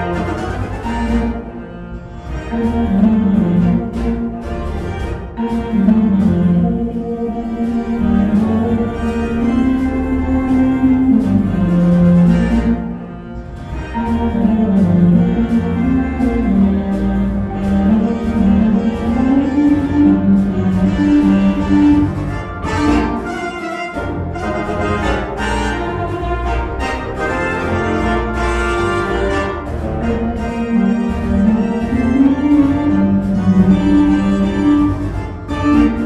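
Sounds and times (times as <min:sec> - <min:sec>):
slow orchestral music: 0:00.0 - 0:36.0.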